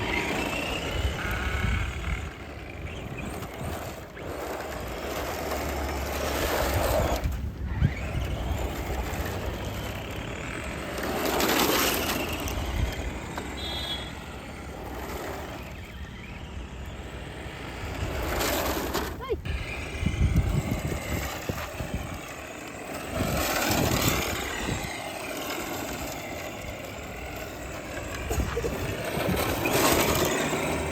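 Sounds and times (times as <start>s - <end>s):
rc truck electric motor and tyres: 0.0s - 30.9s.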